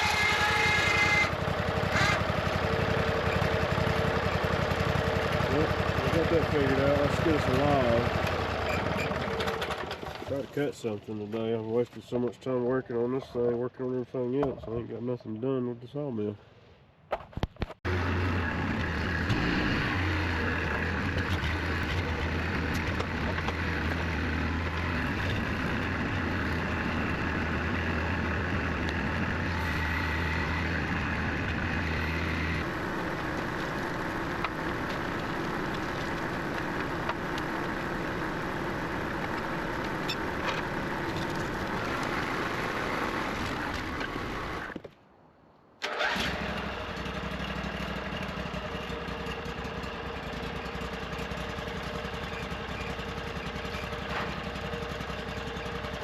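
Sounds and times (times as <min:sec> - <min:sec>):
sawmill engine running: 0:00.0 - 0:11.3, 0:17.9 - 0:44.8, 0:45.8 - 0:56.0.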